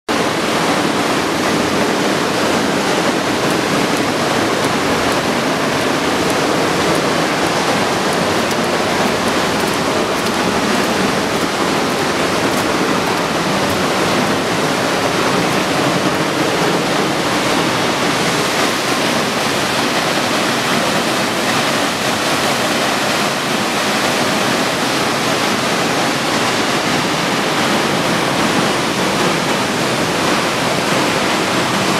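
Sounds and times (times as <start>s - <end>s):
waterfall rushing: 0.1s - 31.9s.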